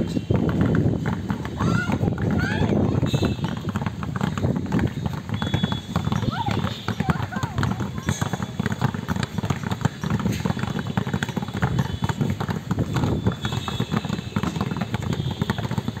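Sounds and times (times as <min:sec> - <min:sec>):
basketballs bouncing on court: 0:00.0 - 0:16.0.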